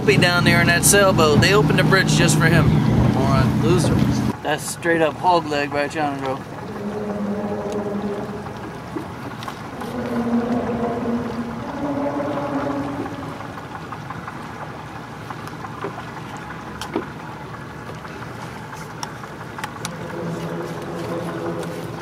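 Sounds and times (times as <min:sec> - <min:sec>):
boat engine: 0:00.0 - 0:22.0
water: 0:00.0 - 0:22.0
wind: 0:00.0 - 0:22.0.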